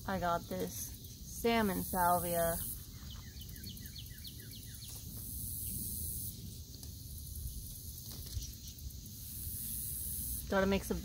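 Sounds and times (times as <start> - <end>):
high insect hiss: 0.0 - 11.0
low wind rumble: 0.0 - 11.0.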